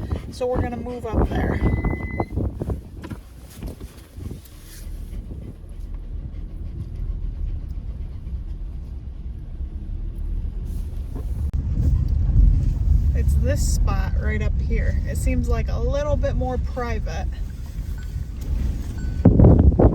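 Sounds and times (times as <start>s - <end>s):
car engine and road rumble: 0.0s - 19.9s.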